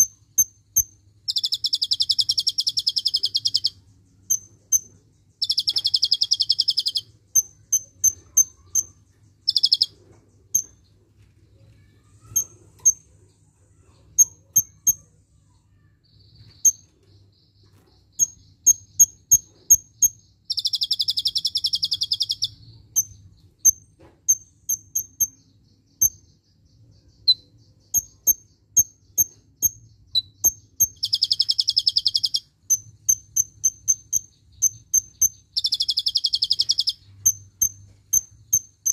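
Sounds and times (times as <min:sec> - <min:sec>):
bird chirping and trilling: 0:00.0 - 0:11.0, 0:11.6 - 0:38.9.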